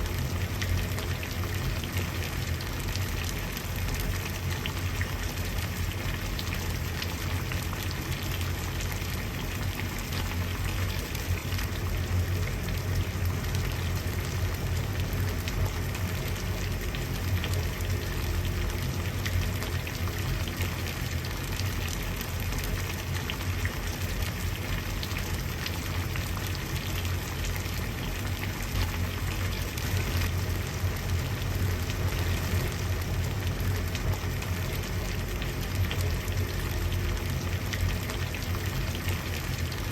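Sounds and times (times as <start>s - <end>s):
water boiling and bubbling: 0.0s - 39.9s.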